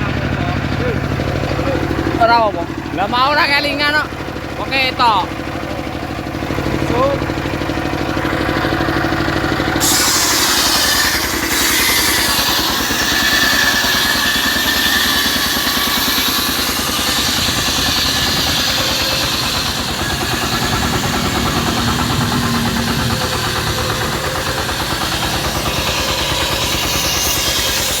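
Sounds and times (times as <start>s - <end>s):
circular saw cutting log: 0.0s - 28.0s
engine pulsing: 0.0s - 28.0s.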